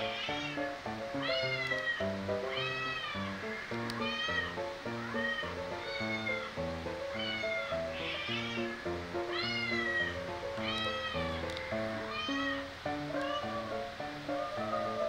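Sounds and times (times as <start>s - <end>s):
background music: 0.0s - 15.0s
cat meowing: 0.0s - 15.0s.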